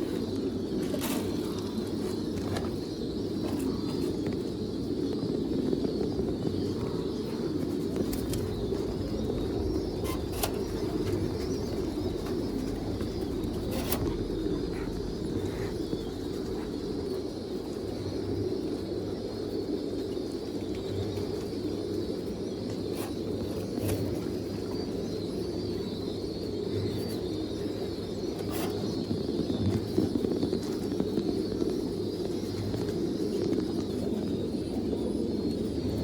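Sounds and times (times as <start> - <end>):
pigeons cooing: 0.0 - 36.0.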